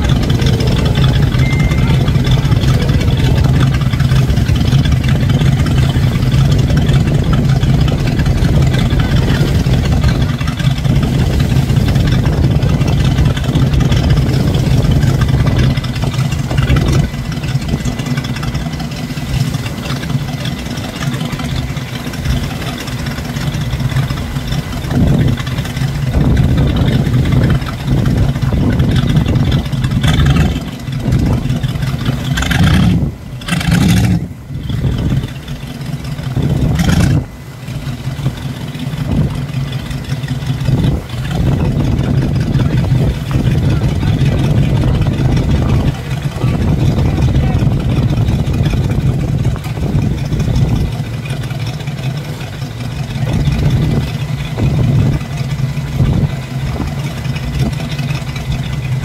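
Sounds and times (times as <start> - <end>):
engine running at low speed: 0.0 - 59.0.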